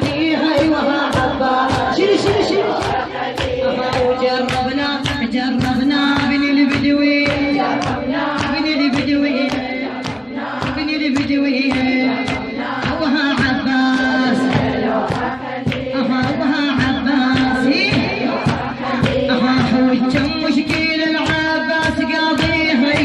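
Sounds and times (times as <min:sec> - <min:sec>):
woman singing lament: 0:00.0 - 0:23.0.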